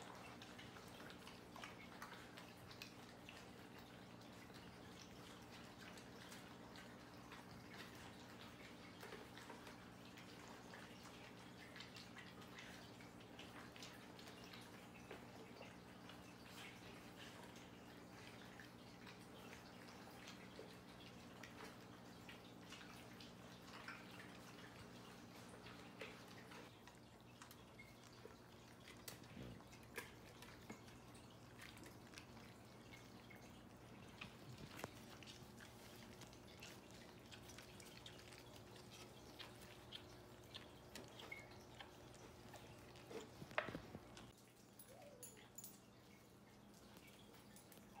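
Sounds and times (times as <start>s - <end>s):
puppies lapping food: 0.0s - 48.0s.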